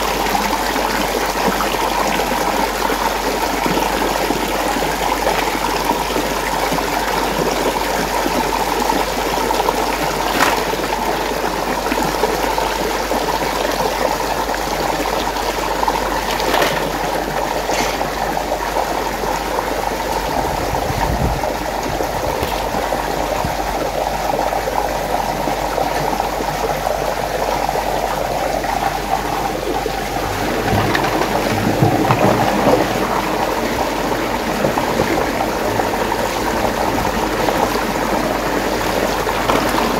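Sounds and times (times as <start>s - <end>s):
water swirling in a whirlpool: 0.0s - 39.9s.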